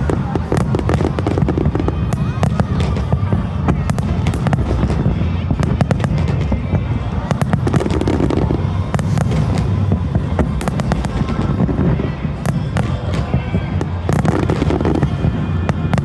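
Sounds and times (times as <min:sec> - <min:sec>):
fireworks booming: 0:00.0 - 0:16.0
fireworks crackling and popping: 0:00.0 - 0:16.0
music playing: 0:00.0 - 0:16.0.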